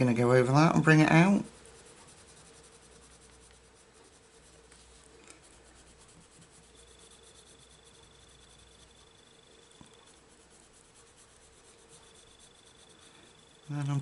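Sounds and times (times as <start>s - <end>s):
faint steady hum: 0.0s - 14.0s
pencil scratching on paper: 0.0s - 14.0s.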